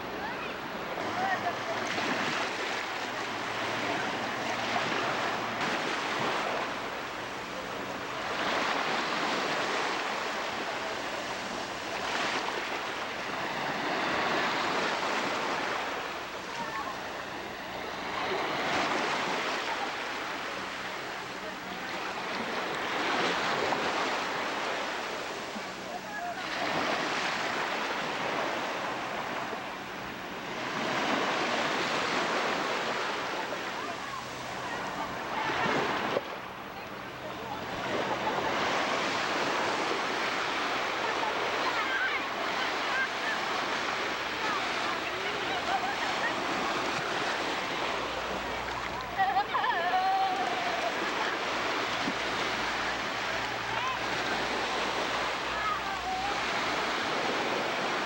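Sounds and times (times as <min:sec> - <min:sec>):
sea surf washing on a beach: 0:00.0 - 0:58.0.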